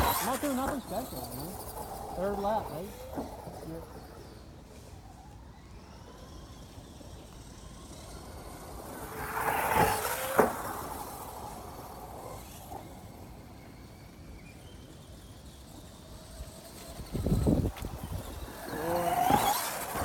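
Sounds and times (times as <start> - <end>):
toy truck motor whine: 0.0 - 20.0.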